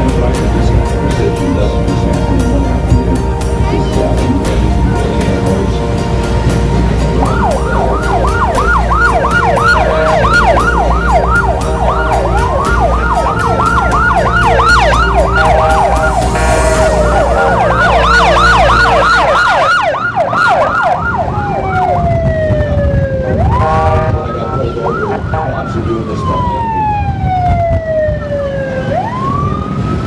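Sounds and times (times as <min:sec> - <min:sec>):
motorcycle engines rumbling: 0:00.0 - 0:29.0
police sirens yelping and wailing: 0:00.0 - 0:30.0.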